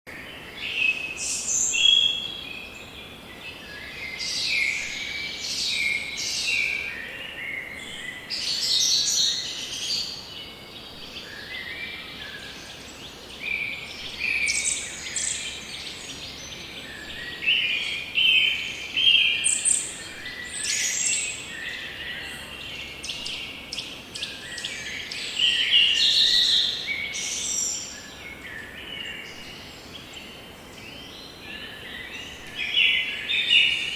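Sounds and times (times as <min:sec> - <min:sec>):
faint background hiss: 0:00.1 - 0:33.9
birds singing and chirping: 0:00.2 - 0:33.9.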